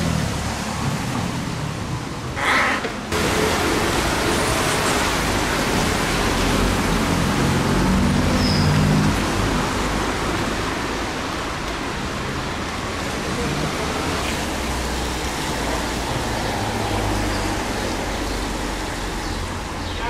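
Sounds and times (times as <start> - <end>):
traffic hiss on wet road: 0.0 - 20.0.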